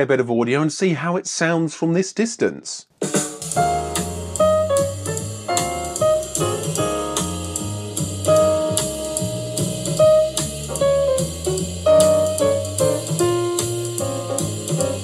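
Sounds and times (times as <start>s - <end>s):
instrumental music with drum beat: 2.9s - 15.0s.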